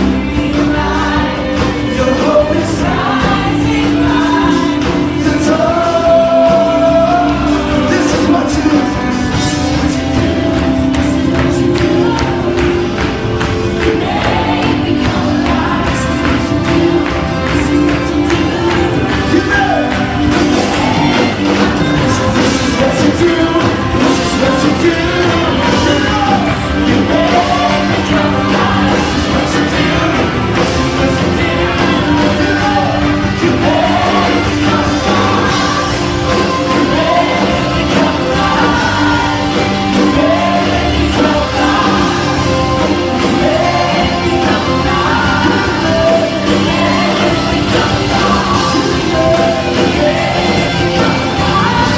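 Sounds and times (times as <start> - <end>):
person singing: 0.0 - 51.9
rock band playing: 0.0 - 51.9.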